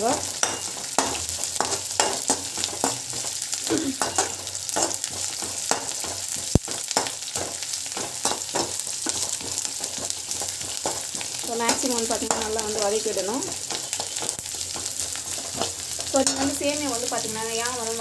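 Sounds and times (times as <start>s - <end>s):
onions sizzling in hot oil: 0.0s - 18.0s
spoon scraping a pan: 0.1s - 17.2s
spoon knocking on pan: 0.2s - 3.4s, 4.0s - 16.7s.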